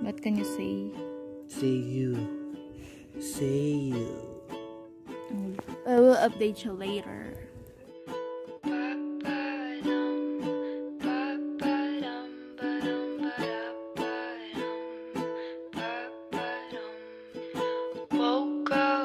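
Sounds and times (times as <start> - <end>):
person singing: 0.0 - 7.4, 8.6 - 19.0
strummed string instrument: 0.0 - 19.0.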